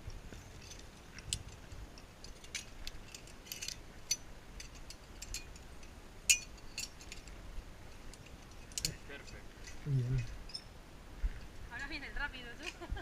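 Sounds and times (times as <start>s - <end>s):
metal carabiners clinking: 0.4s - 10.8s, 11.4s - 13.0s.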